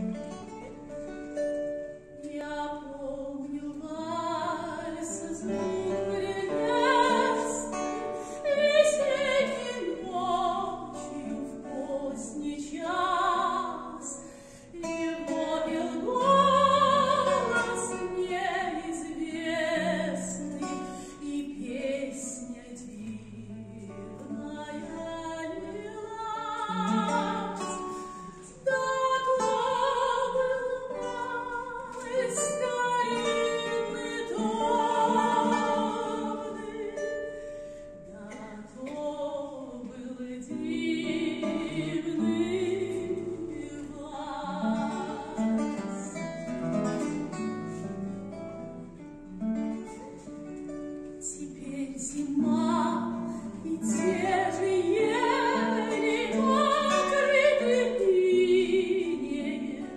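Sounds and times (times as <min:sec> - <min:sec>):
classical guitar plucking: 0:00.0 - 0:59.9
woman singing operatically: 0:02.2 - 0:37.2, 0:38.1 - 0:45.9, 0:51.2 - 0:59.9.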